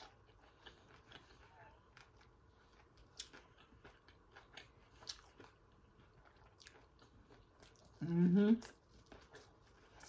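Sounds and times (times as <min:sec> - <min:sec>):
chewing crispy food: 0:00.0 - 0:10.0.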